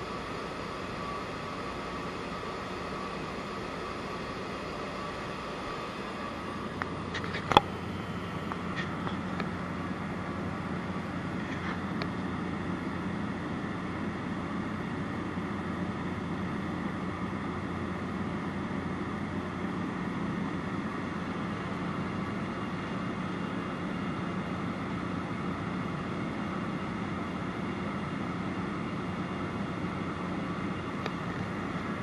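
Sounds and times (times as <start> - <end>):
propeller aircraft engine drone: 0.0 - 32.0.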